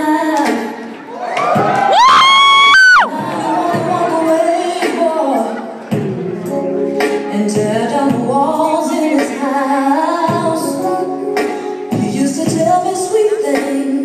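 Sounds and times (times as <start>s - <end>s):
song with singing and percussion: 0.0s - 1.9s, 3.0s - 14.0s.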